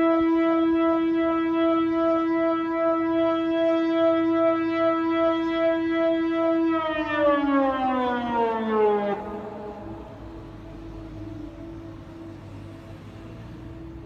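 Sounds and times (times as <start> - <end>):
siren-like tone sliding down: 0.0 - 14.0.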